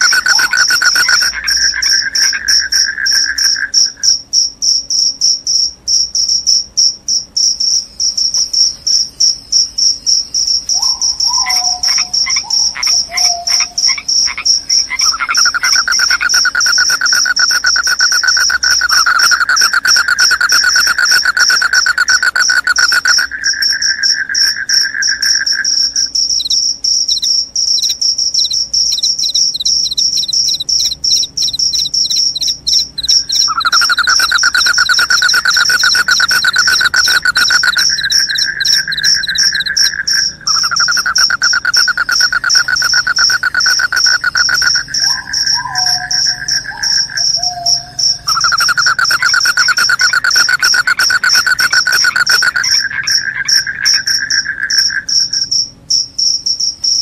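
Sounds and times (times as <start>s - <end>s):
crickets trilling: 0.0s - 57.0s
lower pulsing cricket trill: 0.0s - 57.0s.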